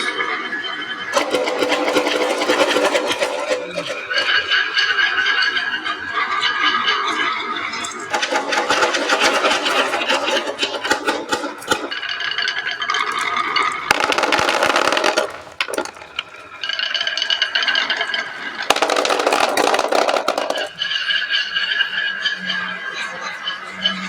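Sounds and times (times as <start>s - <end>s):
marbles rattling down wooden track: 1.0s - 22.8s.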